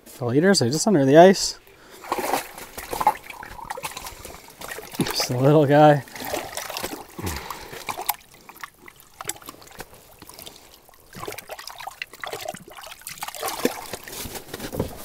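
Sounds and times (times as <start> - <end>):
small splashes and trickles: 1.6 - 15.0
water sloshing and dripping: 1.6 - 15.0.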